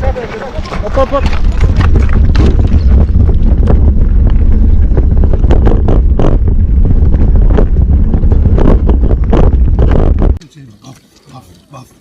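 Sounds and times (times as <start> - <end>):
wind buffeting microphone: 0.0 - 10.4
bike knocks and rattles: 0.6 - 10.3.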